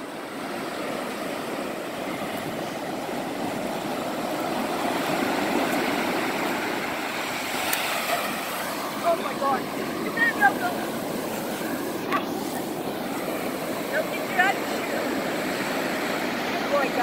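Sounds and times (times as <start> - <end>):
waves breaking on sand: 0.0 - 17.0.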